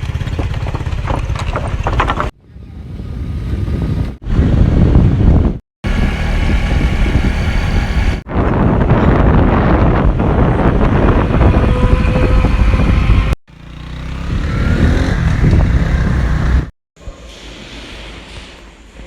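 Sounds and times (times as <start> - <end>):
motorcycle engine rumble: 0.0 - 16.7.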